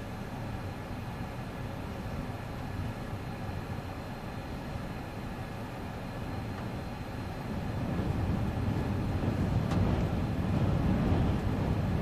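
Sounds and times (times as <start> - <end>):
storm wind gusting against car: 0.0 - 12.0.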